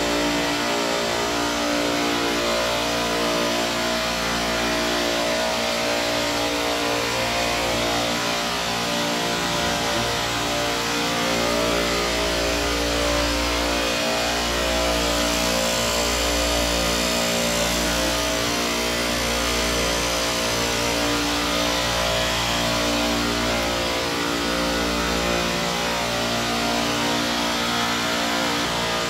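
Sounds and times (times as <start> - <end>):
refrigeration compressors humming: 0.0 - 29.0.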